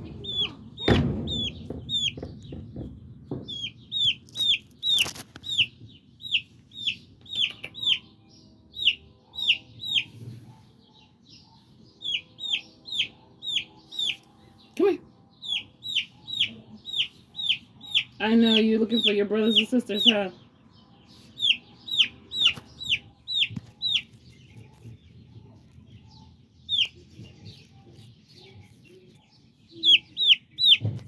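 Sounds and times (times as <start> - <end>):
baby chick peeping loudly: 0.0 - 31.0.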